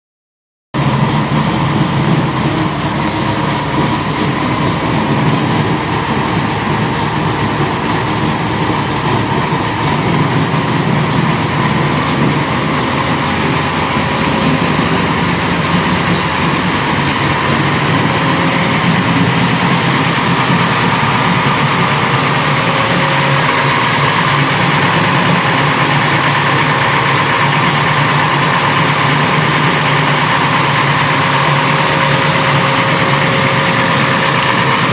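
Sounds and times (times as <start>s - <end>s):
engine idling: 0.8s - 34.9s.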